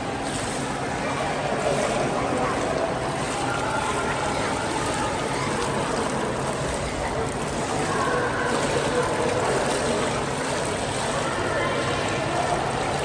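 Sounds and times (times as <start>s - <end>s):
pool water splashing: 0.0s - 13.0s.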